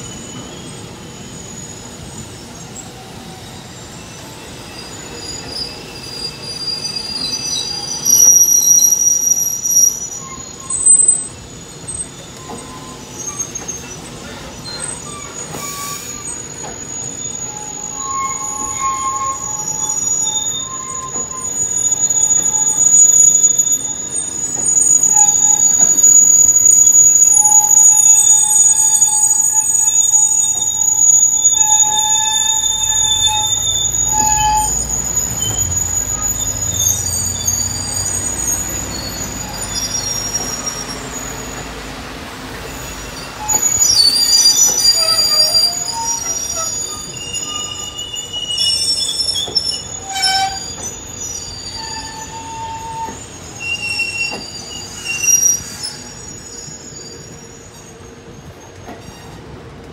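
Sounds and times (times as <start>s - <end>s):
wagon wheels squealing: 0.0s - 59.6s.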